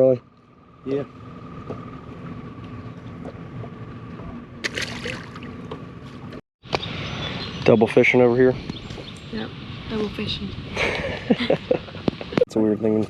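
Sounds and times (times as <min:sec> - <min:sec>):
boat motor humming: 0:00.0 - 0:12.4.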